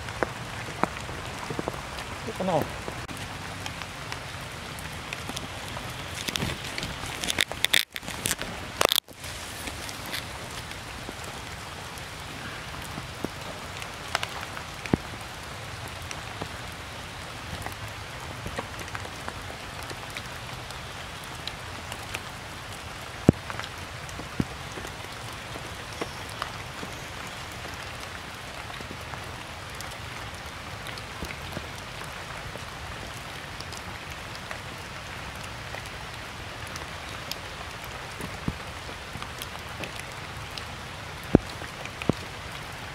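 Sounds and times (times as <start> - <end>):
rain pattering on stones and leaves: 0.0 - 42.9.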